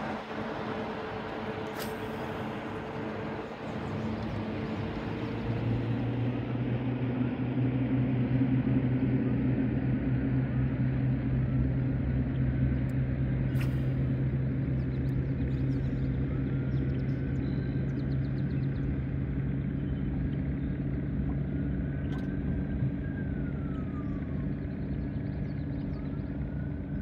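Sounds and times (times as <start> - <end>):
boat motor humming: 0.0 - 27.0.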